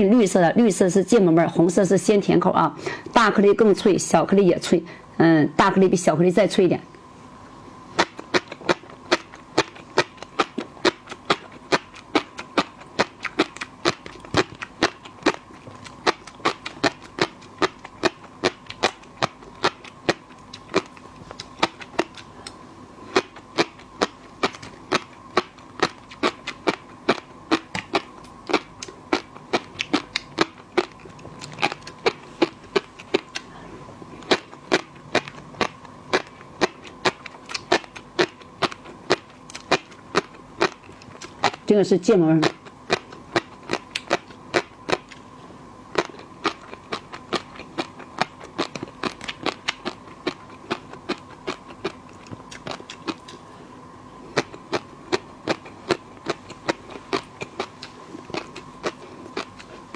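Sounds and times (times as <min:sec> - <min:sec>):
faint steady hum: 0:00.0 - 0:59.9
fish roe crunching while chewed: 0:07.8 - 0:41.7, 0:42.4 - 0:59.9.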